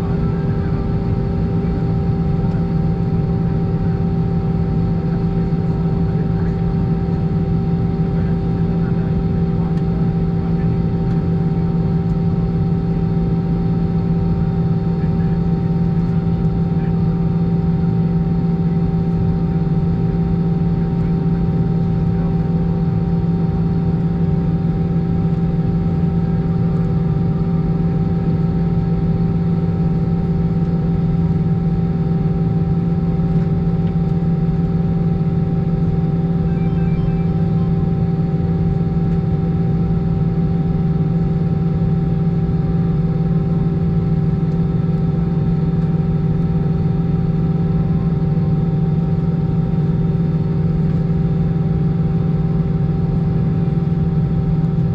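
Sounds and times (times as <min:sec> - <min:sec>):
aircraft cabin hum: 0:00.0 - 0:54.9.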